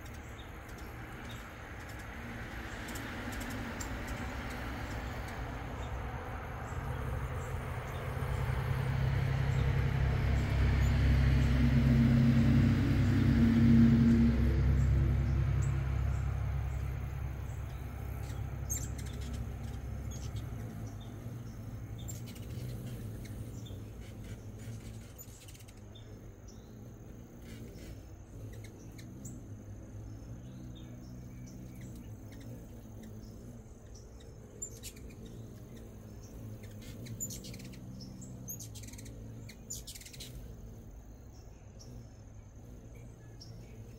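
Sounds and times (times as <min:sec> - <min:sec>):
hummingbird chirps: 0:00.0 - 0:43.9
insect trill: 0:00.0 - 0:43.9
vehicle rumble: 0:00.0 - 0:43.9.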